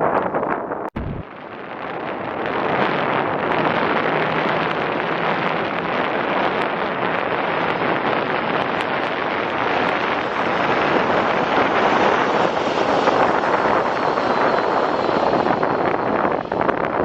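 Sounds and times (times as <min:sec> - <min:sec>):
wind on microphone: 0:00.0 - 0:17.0
jet engine noise: 0:00.9 - 0:17.0.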